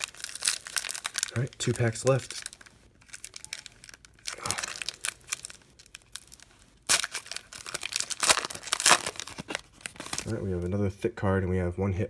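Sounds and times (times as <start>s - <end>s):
foil wrapper ripping and crinkling: 0.0s - 10.6s.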